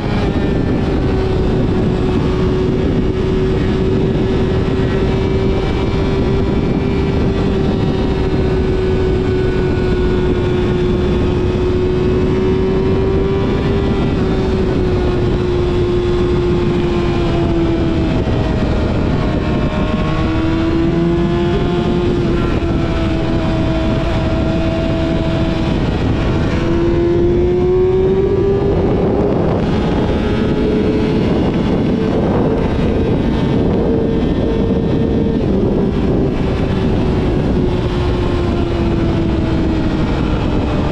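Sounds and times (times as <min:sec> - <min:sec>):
motorcycle engine revving: 0:00.0 - 0:40.9
road noise: 0:00.0 - 0:40.9
rushing wind: 0:00.0 - 0:40.9.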